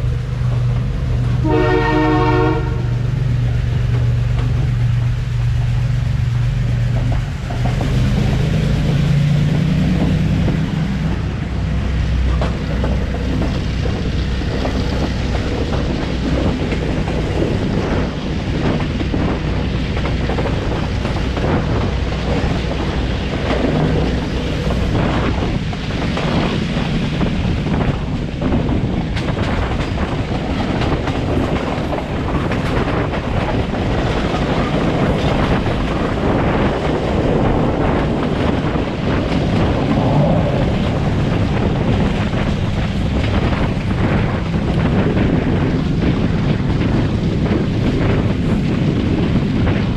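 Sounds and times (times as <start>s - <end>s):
train wheels rumbling on rails: 0.0s - 49.9s
wind buffeting microphone: 0.0s - 49.9s.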